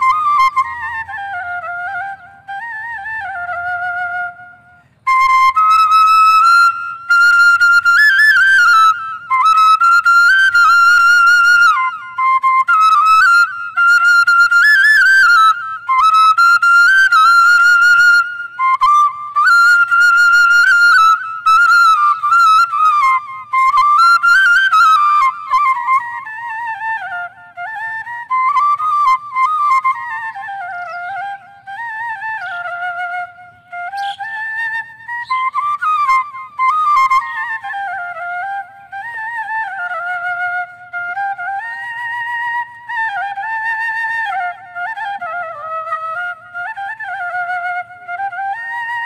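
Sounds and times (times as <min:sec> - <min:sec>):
bamboo flute folk melody: 0:00.0 - 0:49.0.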